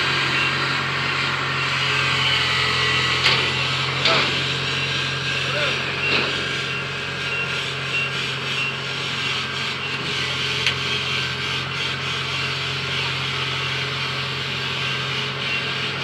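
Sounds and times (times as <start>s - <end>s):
combine harvester running: 0.0s - 16.0s.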